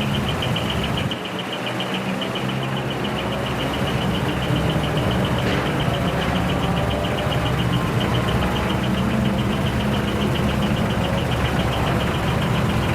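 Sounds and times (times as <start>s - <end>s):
high-pitched pulsing tone: 0.0s - 12.9s
truck engine running: 0.0s - 12.9s.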